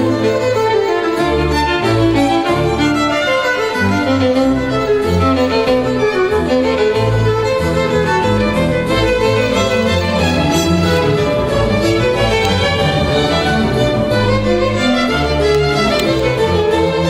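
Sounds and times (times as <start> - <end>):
bowed strings music: 0.0 - 17.0.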